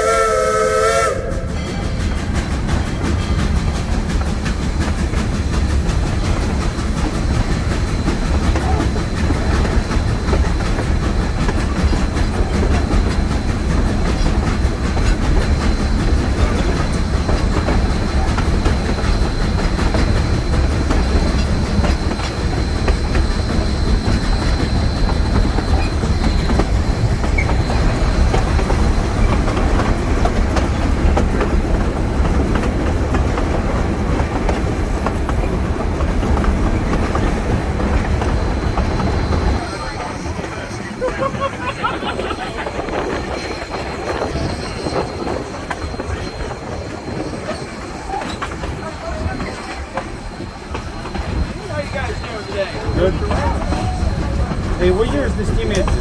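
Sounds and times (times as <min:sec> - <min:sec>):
steam train rumbling on track: 0:00.0 - 0:56.0
wheels clicking over rails: 0:01.4 - 0:56.0.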